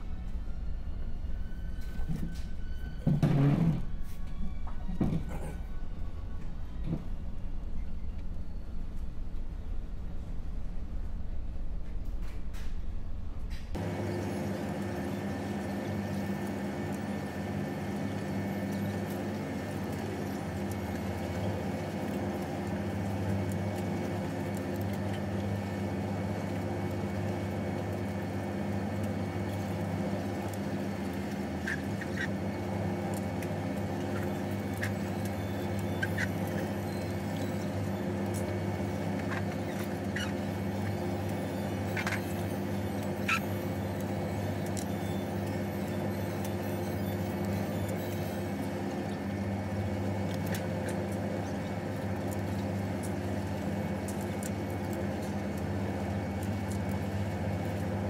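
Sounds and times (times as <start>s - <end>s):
ferry engines droning: 0.0s - 58.0s.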